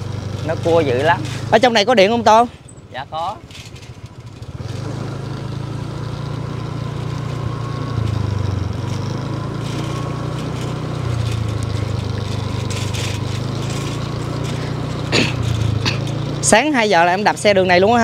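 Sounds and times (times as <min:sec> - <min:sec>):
motorbike engine running: 0:00.0 - 0:18.0.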